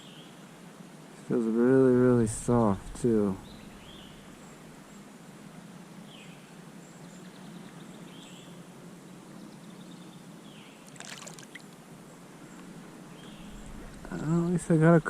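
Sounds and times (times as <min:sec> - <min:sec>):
steady low background noise: 0:00.0 - 0:15.0.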